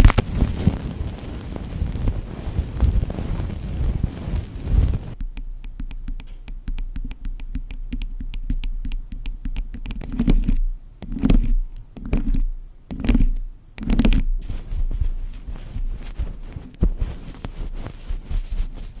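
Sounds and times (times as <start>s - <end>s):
rubbing on ceramic tiles: 0.0s - 5.2s, 6.2s - 19.0s
scratching and clicking on tiles: 0.0s - 19.0s.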